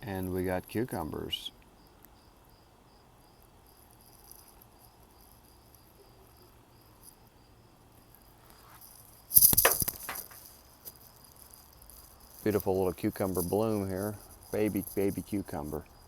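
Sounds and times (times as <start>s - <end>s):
cricket chirping: 0.2s - 16.0s.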